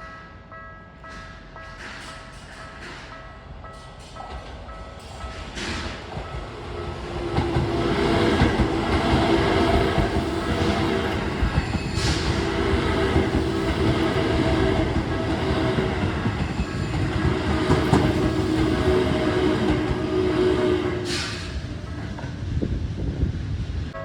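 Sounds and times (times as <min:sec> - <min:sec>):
train wheels rumbling on rail: 0:00.9 - 0:24.0.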